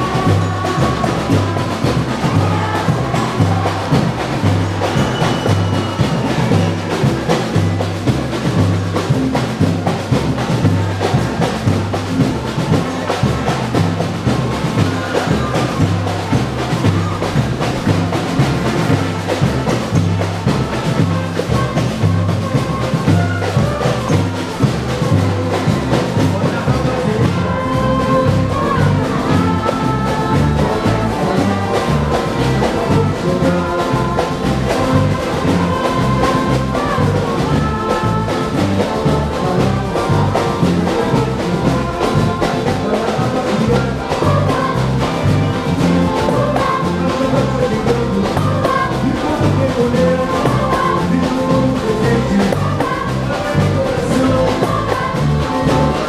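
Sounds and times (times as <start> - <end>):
person singing: 0.0 - 10.0, 10.6 - 56.0
bass drums beating: 0.0 - 56.0
samba band music: 0.0 - 56.0.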